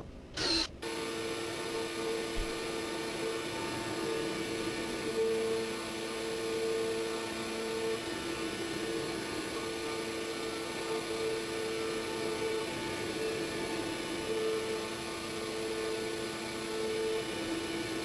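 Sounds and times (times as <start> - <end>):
router spindle whine: 0.0 - 18.0.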